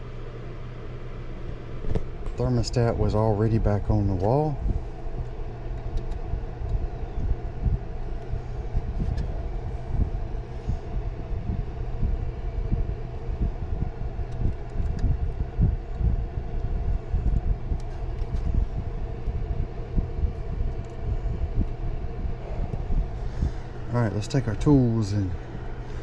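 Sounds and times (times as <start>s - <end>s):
machinery rumble and hum: 0.0s - 26.0s.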